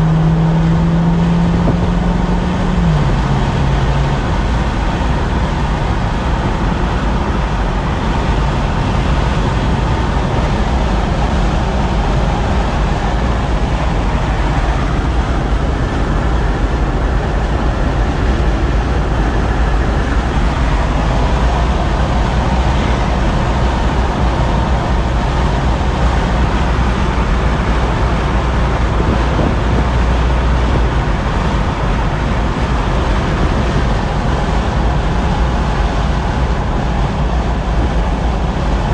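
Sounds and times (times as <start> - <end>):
car engine low rumble: 0.0 - 38.9
road and wind noise: 0.0 - 38.9.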